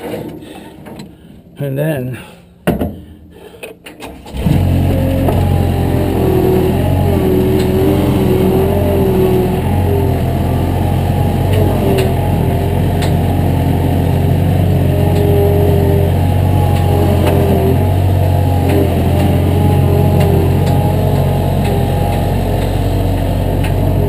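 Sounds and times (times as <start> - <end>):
vehicle engine running: 4.3 - 24.0
wavering whine: 4.4 - 24.0.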